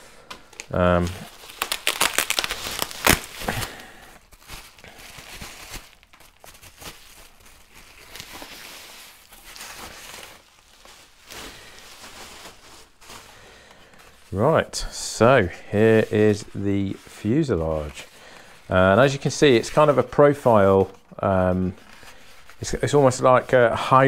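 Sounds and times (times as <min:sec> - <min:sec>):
bubble wrap crinkling: 0:00.0 - 0:24.0.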